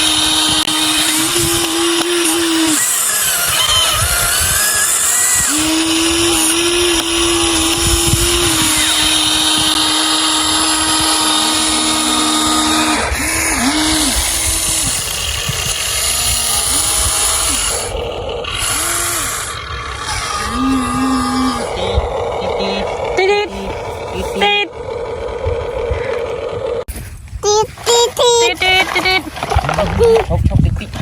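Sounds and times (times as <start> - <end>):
toy electric motors whining: 0.0 - 31.0.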